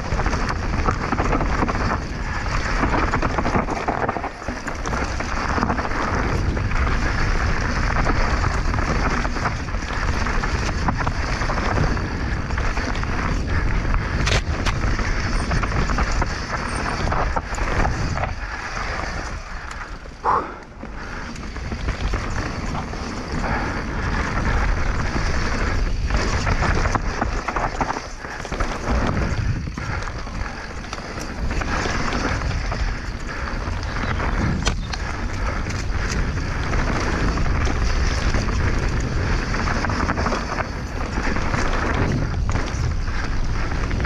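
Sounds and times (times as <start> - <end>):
bike tyres on rough ground: 0.0 - 44.0
wind rushing over microphone: 0.0 - 44.0.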